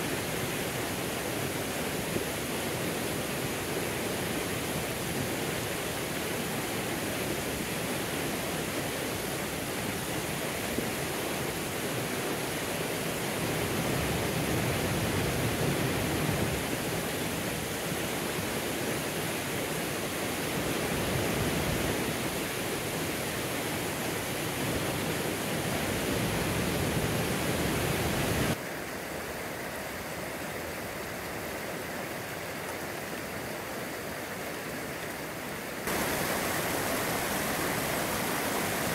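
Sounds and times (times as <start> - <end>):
shallow creek running over stones: 0.0 - 38.9
waterfall and creek rapids rushing: 0.0 - 38.9.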